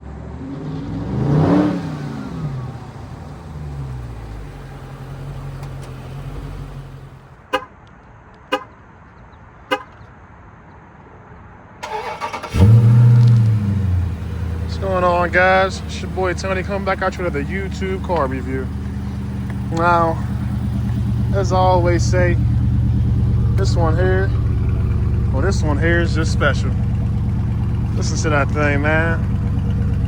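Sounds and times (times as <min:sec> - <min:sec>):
car engine revving and idling: 0:00.0 - 0:07.4, 0:11.8 - 0:30.0
car engine starting: 0:00.0 - 0:07.4, 0:11.8 - 0:30.0.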